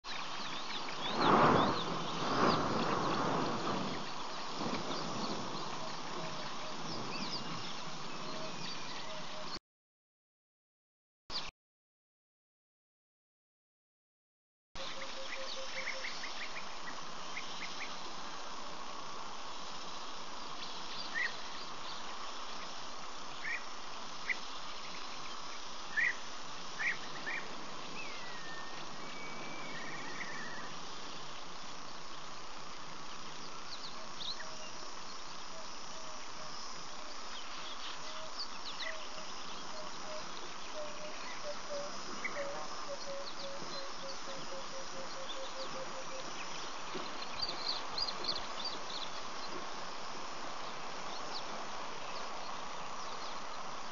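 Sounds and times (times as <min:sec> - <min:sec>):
insects droning: 0:00.0 - 0:09.6, 0:14.8 - 0:53.9.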